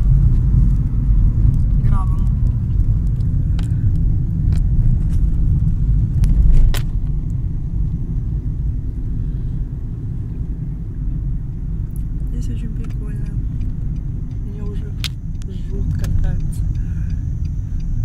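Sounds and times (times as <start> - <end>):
car driving rumble: 0.0 - 18.0.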